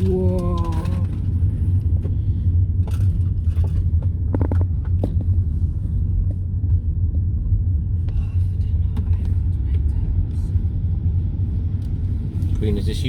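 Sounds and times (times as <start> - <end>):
car driving on rough road: 0.0 - 13.0.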